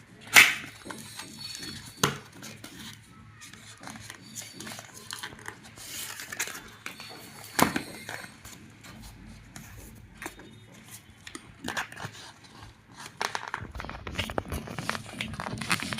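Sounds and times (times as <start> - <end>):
packaging rustling and scraping: 0.0 - 15.9.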